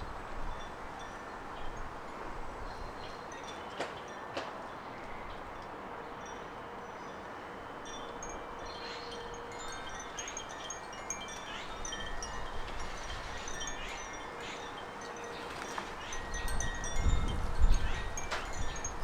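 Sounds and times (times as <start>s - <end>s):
steady outdoor hiss: 0.0s - 19.0s
wind chimes ringing: 0.5s - 19.0s.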